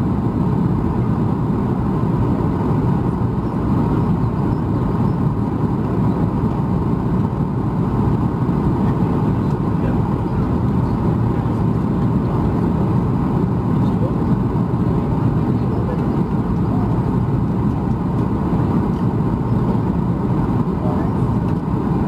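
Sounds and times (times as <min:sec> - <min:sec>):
airplane cabin engine drone: 0:00.0 - 0:22.0.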